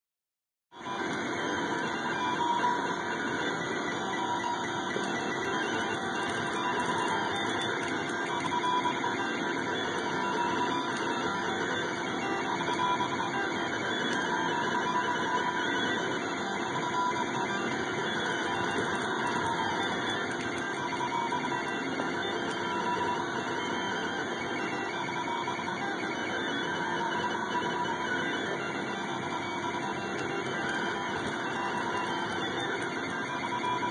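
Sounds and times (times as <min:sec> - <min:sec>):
stepper motors whining: 0:00.8 - 0:33.9.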